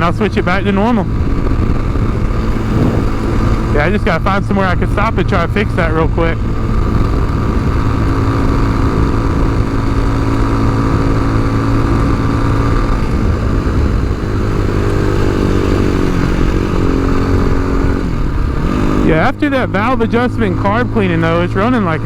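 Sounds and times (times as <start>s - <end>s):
wind noise on microphone: 0.0s - 19.2s
motorcycle engine running: 0.0s - 22.0s.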